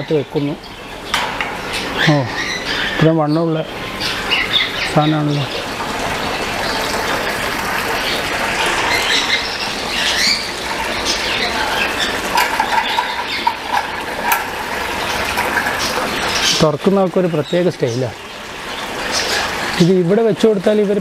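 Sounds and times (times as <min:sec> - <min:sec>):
birds chirping and squawking: 0:00.0 - 0:20.9.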